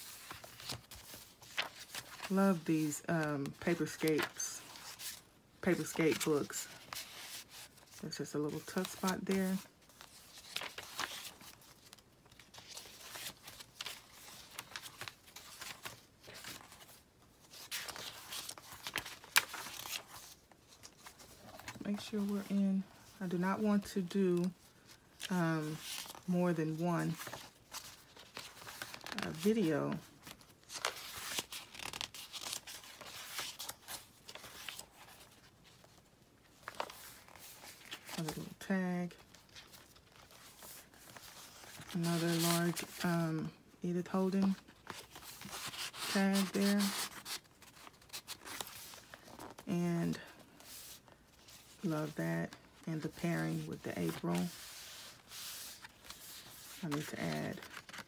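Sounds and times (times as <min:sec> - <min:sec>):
paper rustling and crinkling: 0:00.0 - 0:43.6, 0:44.4 - 0:58.0.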